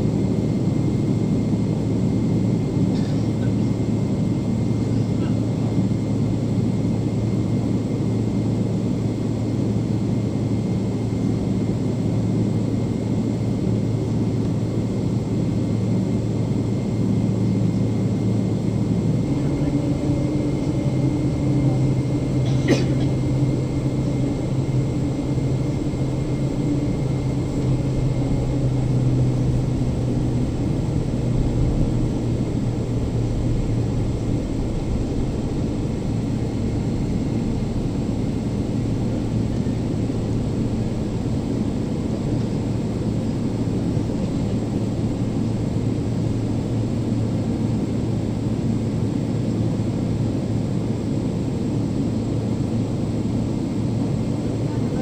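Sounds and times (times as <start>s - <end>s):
jet engines droning in cabin: 0.0s - 55.0s.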